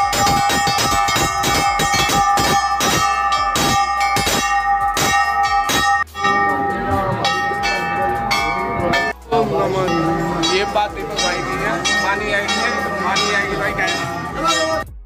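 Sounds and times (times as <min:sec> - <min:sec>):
large metal bells clanging: 0:00.0 - 0:15.0.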